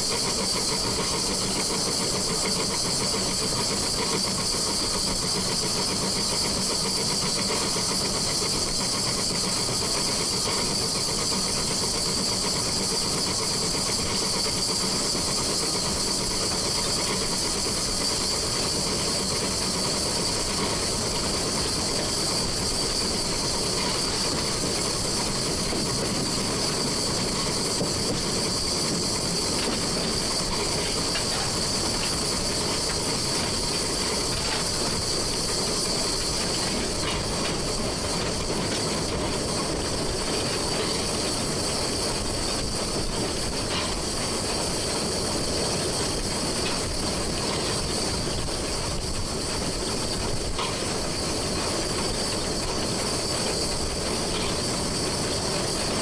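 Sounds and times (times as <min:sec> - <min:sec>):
steam hiss: 0:00.0 - 0:56.0
wheels rumbling on rails: 0:00.0 - 0:56.0.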